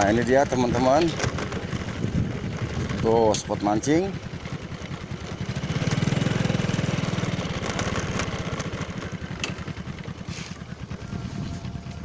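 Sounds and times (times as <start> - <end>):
small motorcycle engine putter: 0.0 - 12.0.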